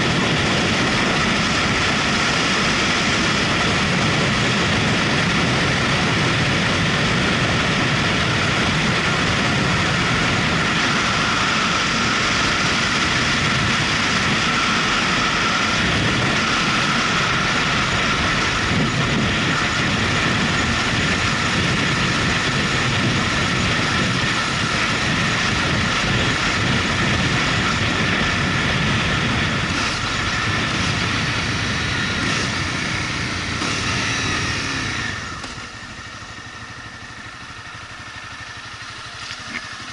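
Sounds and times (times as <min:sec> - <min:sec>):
motorcycle running: 0:00.0 - 0:39.9
wind and road noise: 0:00.0 - 0:39.9.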